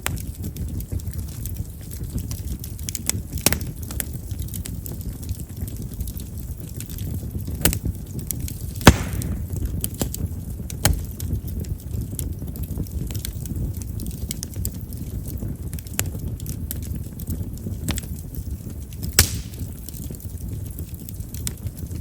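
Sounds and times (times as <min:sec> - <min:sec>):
firewood crackling and popping: 0:00.0 - 0:22.0
low fire rumble: 0:00.0 - 0:22.0.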